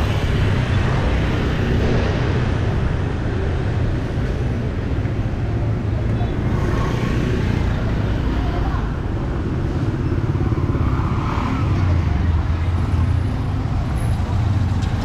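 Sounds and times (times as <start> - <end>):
road traffic engine rumble: 0.0 - 15.0.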